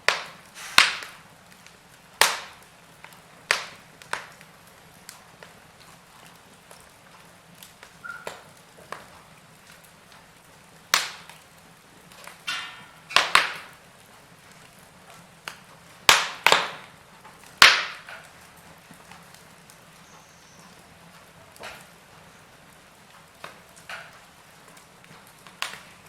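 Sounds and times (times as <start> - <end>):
faint steady hiss: 0.0 - 26.0
wood fire snapping and popping: 0.0 - 26.0.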